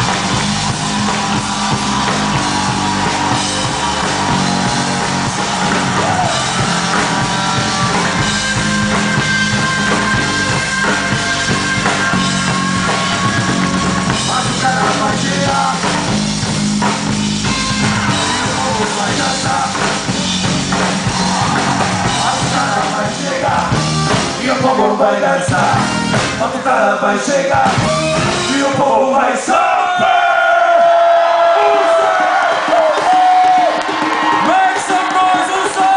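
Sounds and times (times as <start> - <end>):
bass and melody instruments: 0.0 - 29.3, 30.0 - 35.9.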